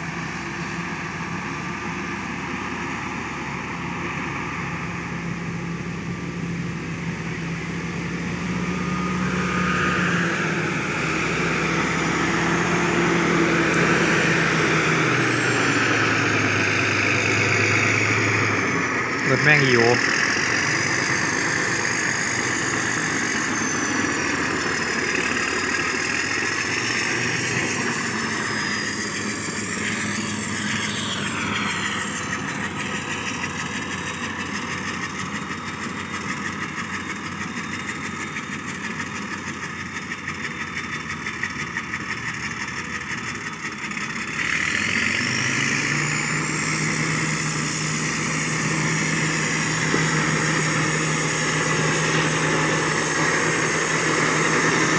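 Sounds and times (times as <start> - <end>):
diesel engine running: 0.0 - 54.9
rising engine whine: 0.0 - 54.9.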